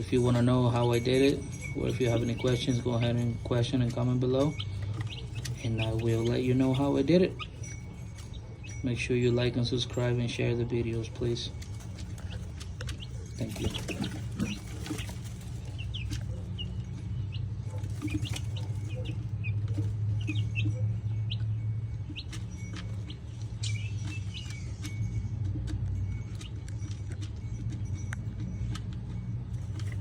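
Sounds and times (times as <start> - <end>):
chicks peeping: 0.0 - 30.0
steady low hum: 0.0 - 30.0.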